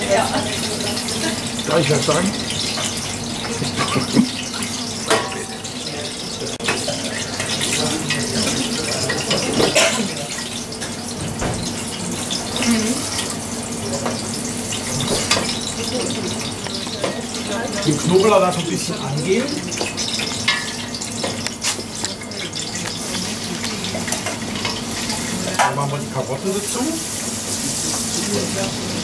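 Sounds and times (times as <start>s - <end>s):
kitchen hiss: 0.0s - 29.0s.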